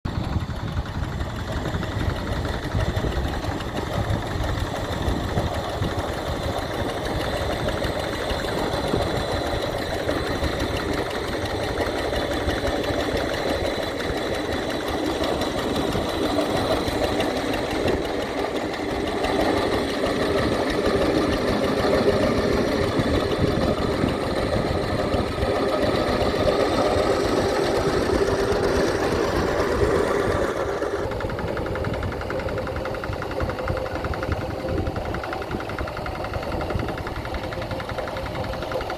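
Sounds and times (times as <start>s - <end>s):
tractor engine chugging: 0.0s - 38.9s.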